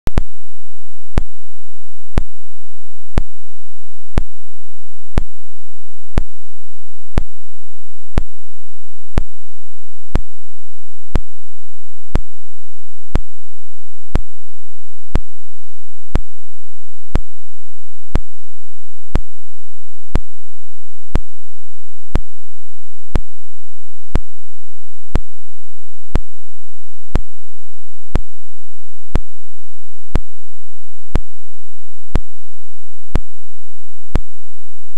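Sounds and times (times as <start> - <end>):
faint steady hiss and hum: 0.1 - 34.9.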